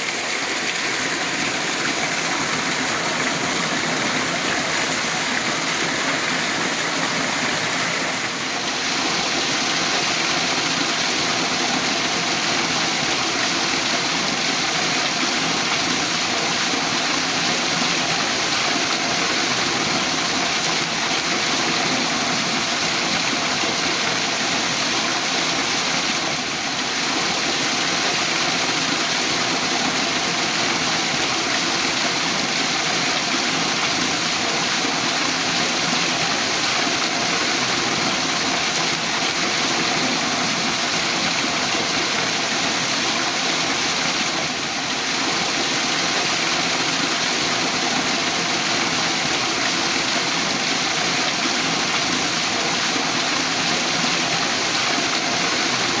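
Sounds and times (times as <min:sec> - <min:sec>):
water pouring through drainage outlet: 0:00.0 - 0:56.0.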